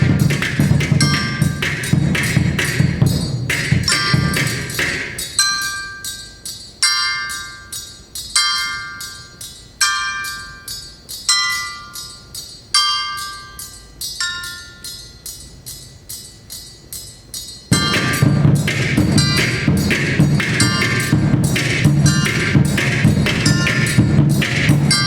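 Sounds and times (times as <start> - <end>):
bell-like metal percussion chords: 0.0 - 25.0.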